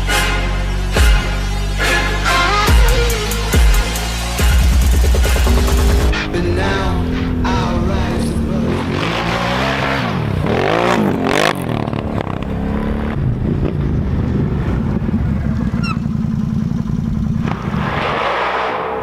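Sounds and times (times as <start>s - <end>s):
atv engine revving: 0.8s - 19.0s.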